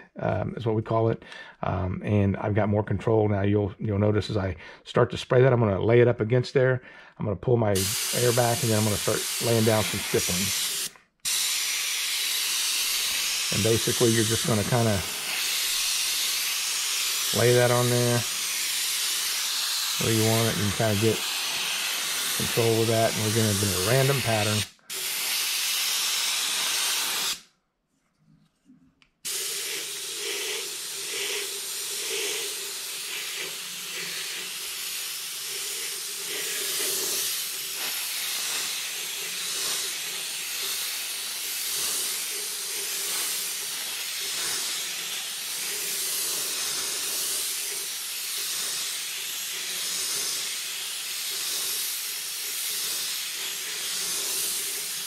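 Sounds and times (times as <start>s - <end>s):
airbrush hissing: 7.8s - 27.4s, 29.2s - 55.0s.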